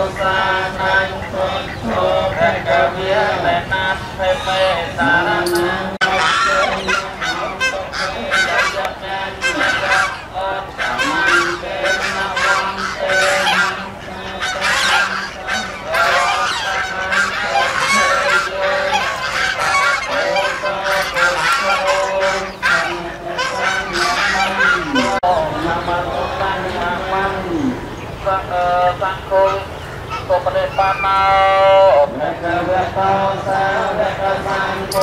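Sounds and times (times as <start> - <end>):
geese honking: 0.0 - 35.0.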